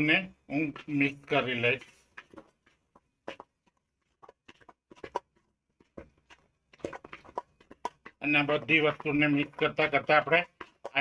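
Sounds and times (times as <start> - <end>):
batter beaten in a bowl: 0.0 - 11.0.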